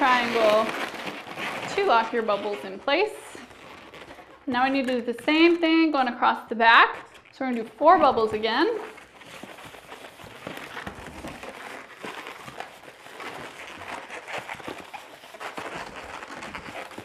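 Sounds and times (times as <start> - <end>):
balloon squeaking and rubbing: 0.0 - 17.0.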